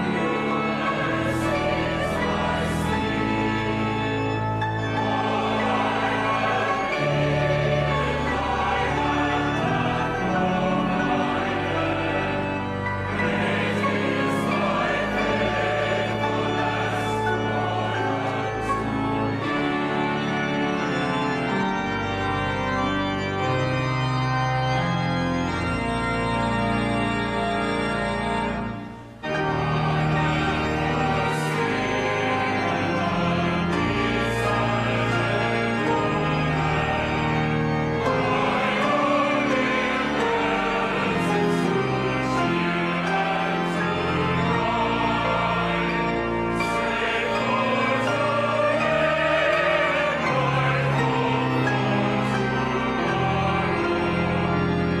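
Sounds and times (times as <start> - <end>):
voices singing: 0.0 - 21.5, 29.4 - 55.0
organ playing sustained chords: 0.0 - 55.0.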